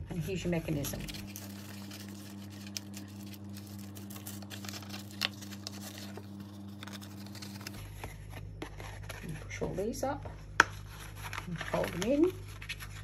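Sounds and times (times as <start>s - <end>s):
steady low hum: 0.0s - 13.0s
paper rustling: 0.6s - 10.0s, 10.7s - 13.0s.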